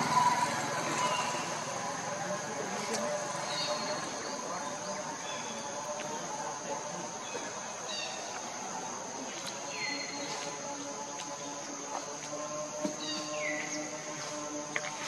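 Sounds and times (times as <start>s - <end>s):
insect buzzing: 0.0s - 15.0s.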